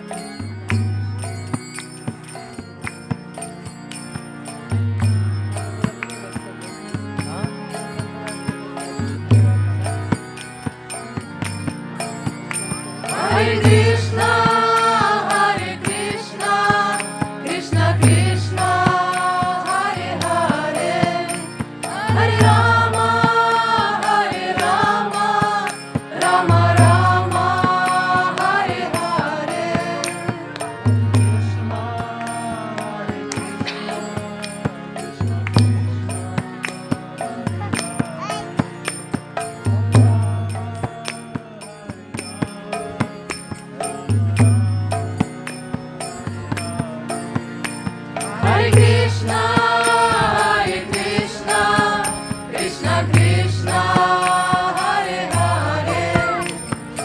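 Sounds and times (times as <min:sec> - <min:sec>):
devotional chanting voices: 0:00.0 - 0:57.0
sharp percussion strikes: 0:00.0 - 0:57.0.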